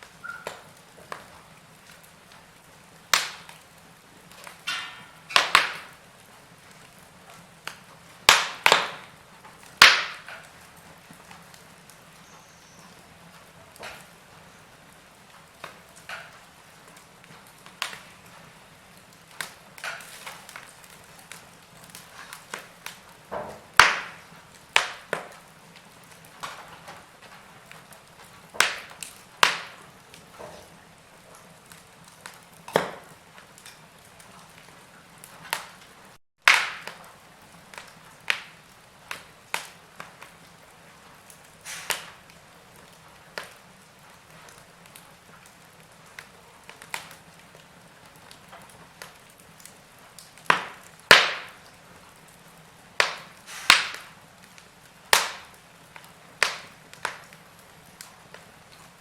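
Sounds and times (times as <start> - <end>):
faint steady hiss: 0.0 - 59.0
log fire crackling: 0.0 - 59.0.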